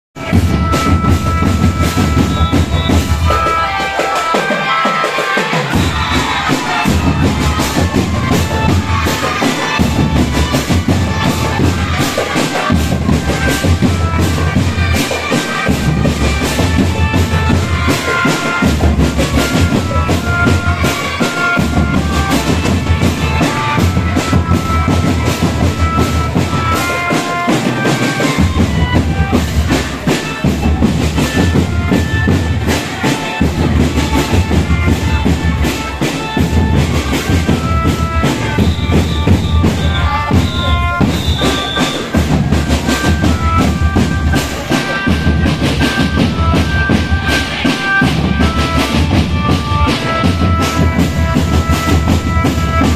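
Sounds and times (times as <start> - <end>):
bright marching melody: 0.2 - 52.9
marching drums: 0.2 - 52.9.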